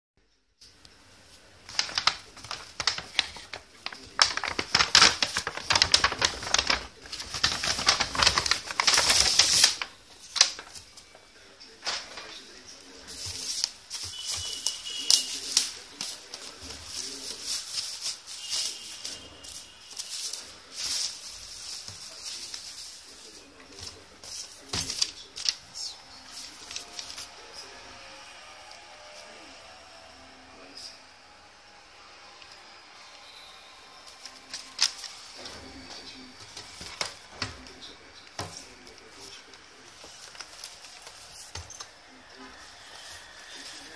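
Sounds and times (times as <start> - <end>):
plastic bag and bubble wrap crinkling: 1.2 - 29.8, 34.0 - 43.9.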